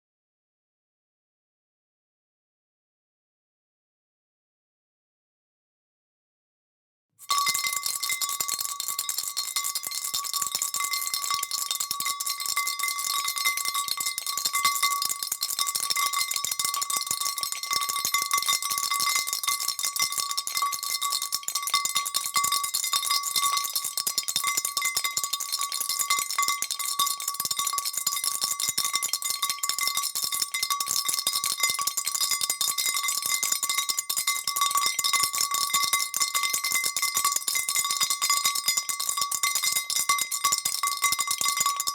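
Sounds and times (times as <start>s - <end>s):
bell noisemaker ringing: 7.2s - 41.9s.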